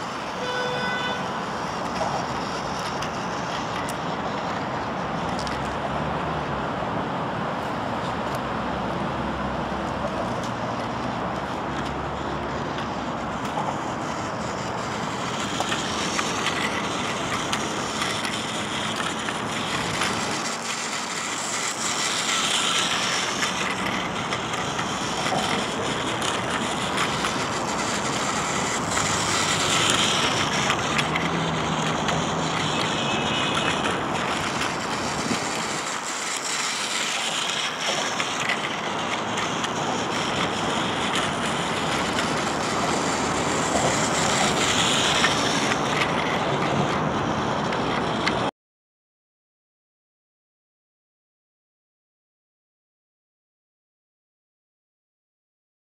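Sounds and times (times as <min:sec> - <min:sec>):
toy train motor whirring: 0:00.0 - 0:06.6, 0:07.5 - 0:48.5.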